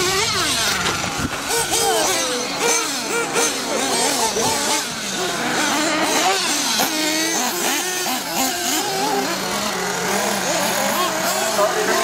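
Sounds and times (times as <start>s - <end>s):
rc car engines buzzing: 0.0s - 12.0s.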